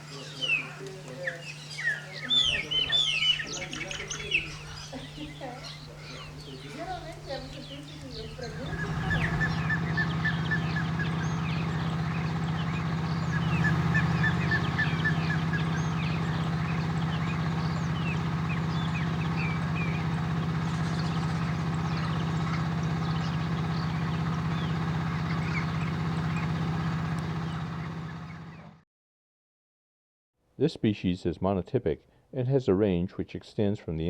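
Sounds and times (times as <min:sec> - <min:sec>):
birds chirping: 0:00.0 - 0:28.8
steady engine hum: 0:00.0 - 0:28.8.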